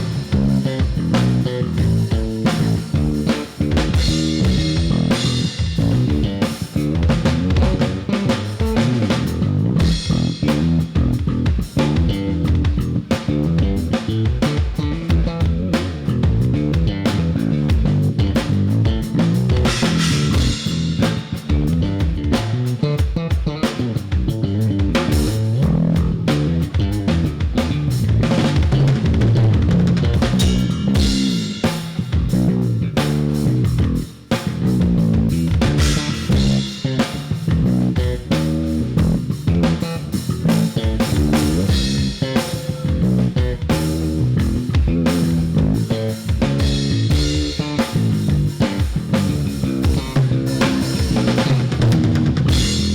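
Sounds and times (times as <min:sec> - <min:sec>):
drum kit beat: 0:00.0 - 0:52.9
instrumental band music: 0:00.0 - 0:52.9.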